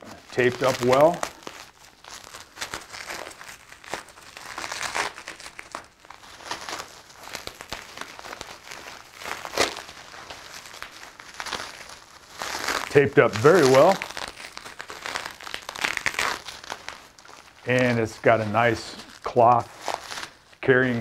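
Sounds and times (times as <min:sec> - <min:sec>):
bubble wrap crinkling: 0:00.0 - 0:21.0.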